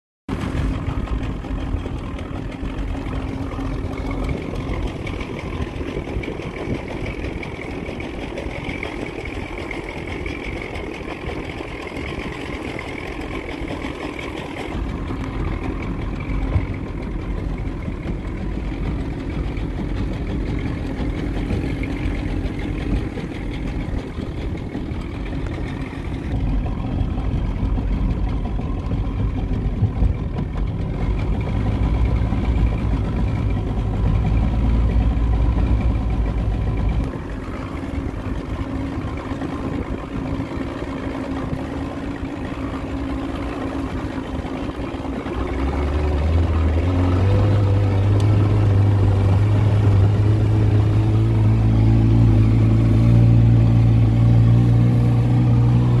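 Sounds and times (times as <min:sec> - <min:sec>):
outboard motor running: 0:00.3 - 0:56.0.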